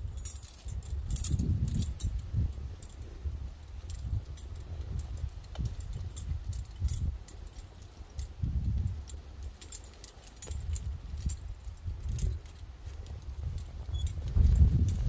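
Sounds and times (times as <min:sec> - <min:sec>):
metal climbing gear jangling: 0:00.0 - 0:15.0.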